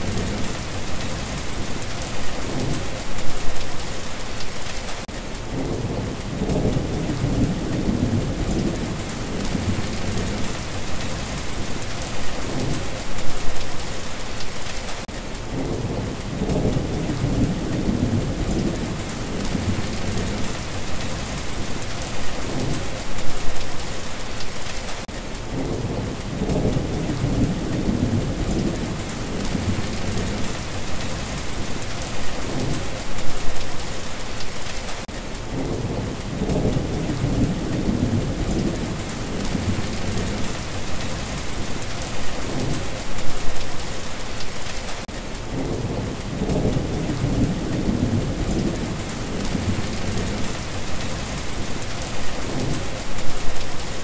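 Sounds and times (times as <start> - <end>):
thunder rumbling: 0.0 - 3.9, 5.5 - 13.8, 15.5 - 23.8, 25.5 - 33.8, 35.5 - 43.6, 45.5 - 54.0
heavy rain hissing: 0.0 - 54.0.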